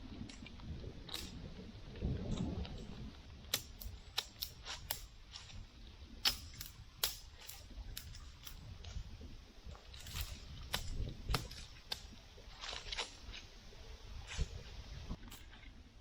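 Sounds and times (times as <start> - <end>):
twigs and brush snapping: 0.2 - 13.5, 14.2 - 15.4.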